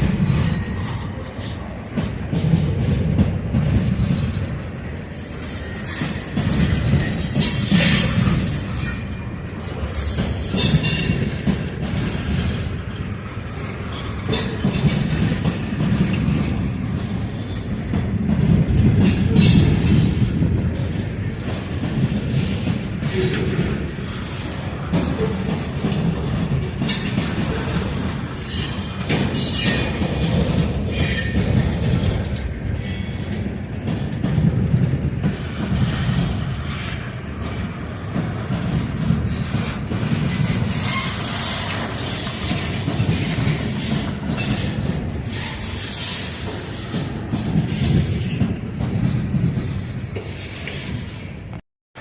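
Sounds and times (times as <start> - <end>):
railroad cars rumbling past: 0.0 - 52.0
steel wheels clanking over rail joints: 0.0 - 52.0.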